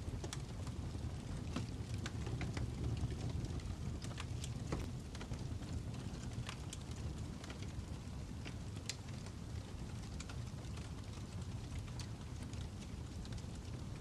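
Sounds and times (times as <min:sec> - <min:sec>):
fire crackling with pops: 0:00.0 - 0:14.0.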